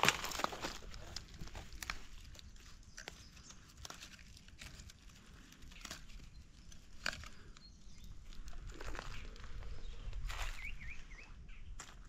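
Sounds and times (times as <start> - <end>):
snaps and rustles of picked leaves: 0.0 - 10.7.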